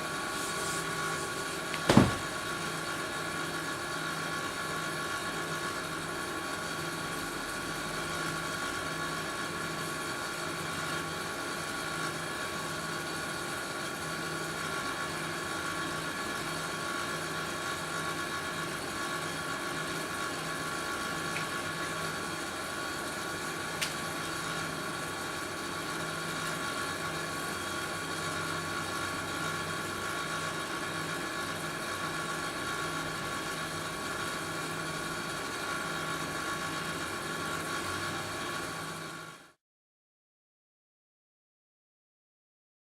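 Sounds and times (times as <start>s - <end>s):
mechanical hum with whining tones: 0.0s - 39.6s.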